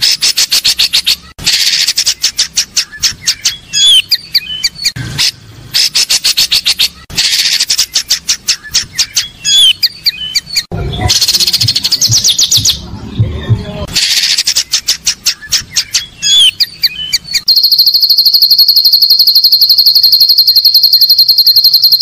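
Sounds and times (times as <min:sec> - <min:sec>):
rapid bird trill: 0:00.0 - 0:12.8, 0:13.9 - 0:22.0
songbird chip notes and whistles: 0:00.0 - 0:22.0.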